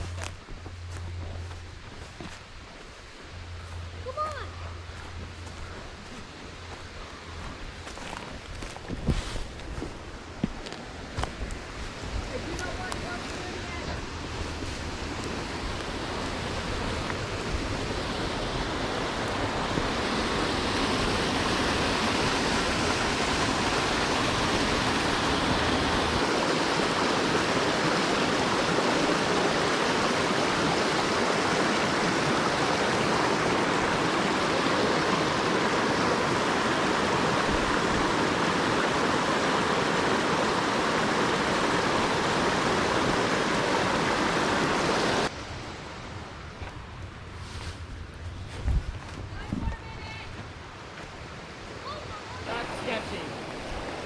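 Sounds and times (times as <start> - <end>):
waterfall roaring: 0.0 - 46.4.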